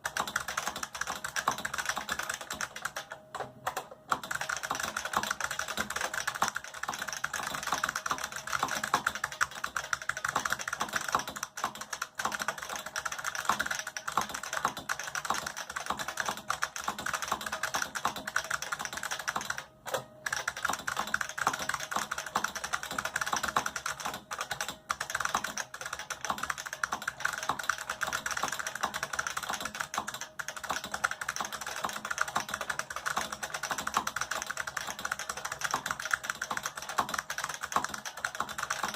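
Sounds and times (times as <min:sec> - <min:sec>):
clicky keyboard typing: 0:00.0 - 0:38.9.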